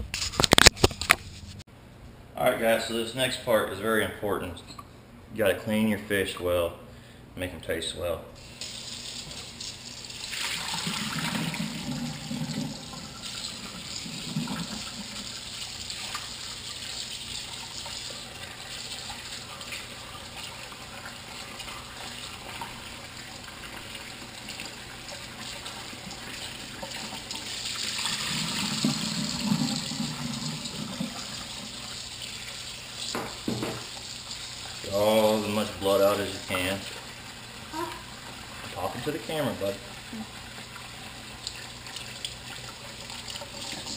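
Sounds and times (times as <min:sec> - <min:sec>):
faucet running into bowl: 0:08.4 - 0:43.9.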